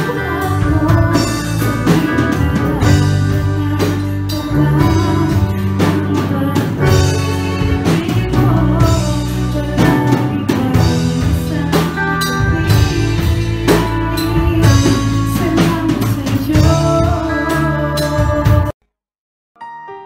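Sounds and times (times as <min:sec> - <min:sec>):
live band playing: 0:00.0 - 0:18.7
people singing: 0:00.0 - 0:18.7.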